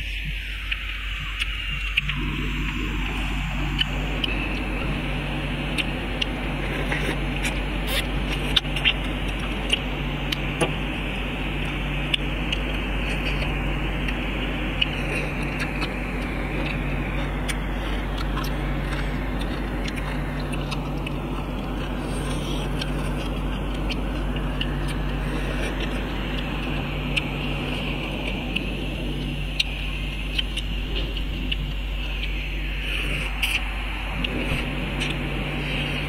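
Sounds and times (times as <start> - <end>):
low hum: 0.0 - 36.0
steady hiss: 0.0 - 36.0.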